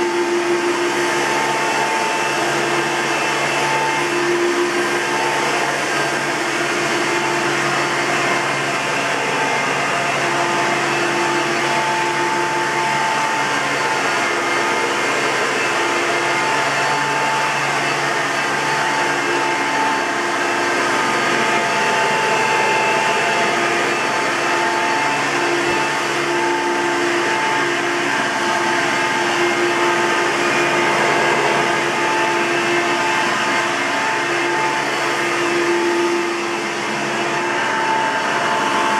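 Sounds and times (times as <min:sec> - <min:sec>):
vacuum cleaner running: 0:00.0 - 0:38.9
whining bearing: 0:00.0 - 0:38.9.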